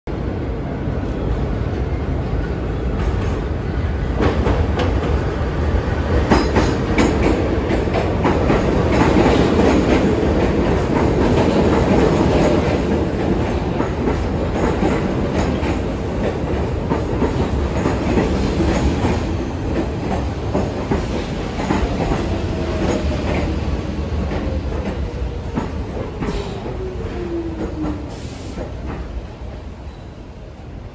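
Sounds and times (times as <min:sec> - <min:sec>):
subway train rumbling: 0:00.1 - 0:30.9.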